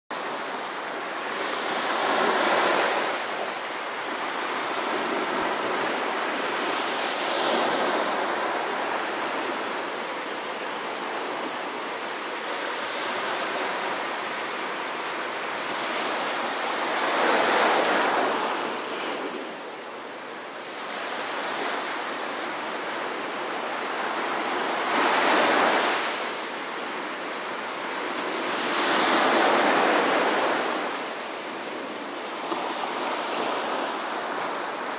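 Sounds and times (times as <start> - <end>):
small waves breaking on sand: 0.2 - 34.9.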